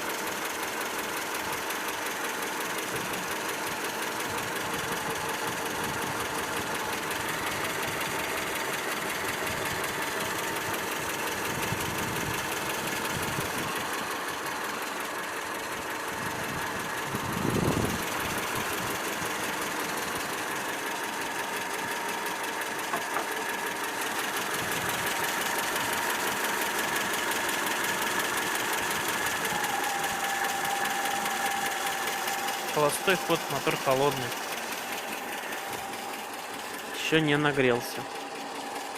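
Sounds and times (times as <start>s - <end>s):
petrol engine idling: 0.0s - 38.9s.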